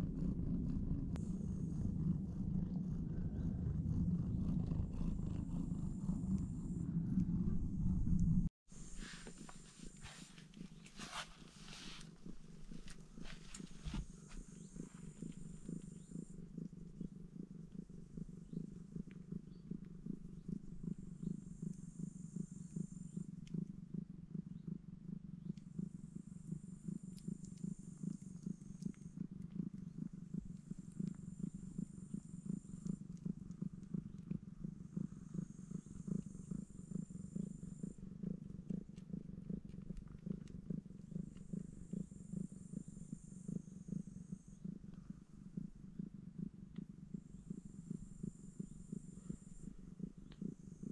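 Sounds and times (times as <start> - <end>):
cat purring: 0.0 - 50.9.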